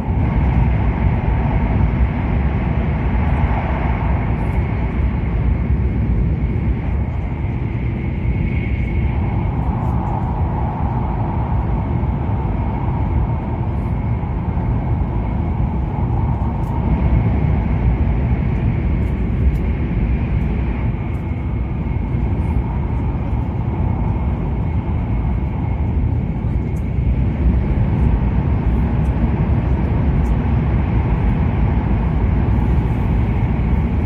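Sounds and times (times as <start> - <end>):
faint steady whine: 0.0 - 34.0
train rumbling on the line: 0.0 - 34.0.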